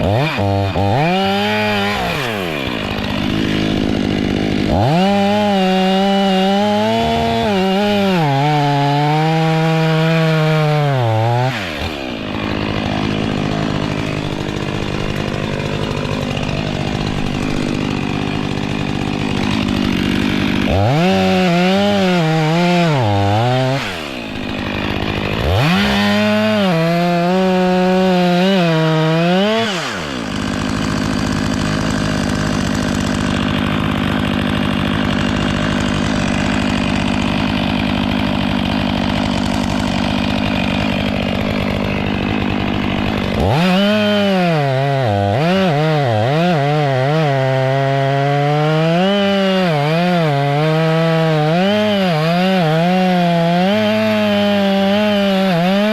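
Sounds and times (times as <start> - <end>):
chainsaw running at high revs: 0.0 - 55.9.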